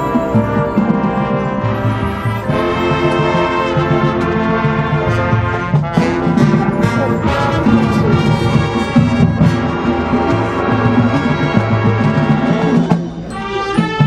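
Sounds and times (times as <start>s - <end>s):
marching band brass chords: 0.0s - 14.0s
percussion strokes: 0.0s - 14.0s.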